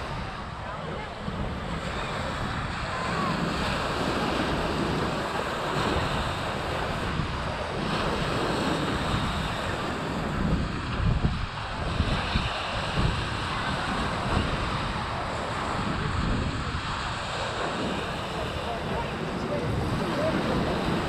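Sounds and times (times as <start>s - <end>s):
ocean surf washing: 0.0s - 21.0s
wind buffeting microphone: 0.0s - 21.0s.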